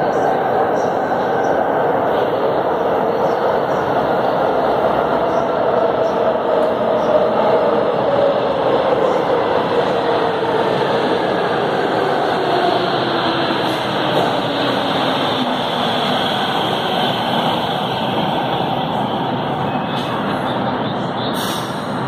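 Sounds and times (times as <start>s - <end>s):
metro train approaching: 0.0s - 22.0s.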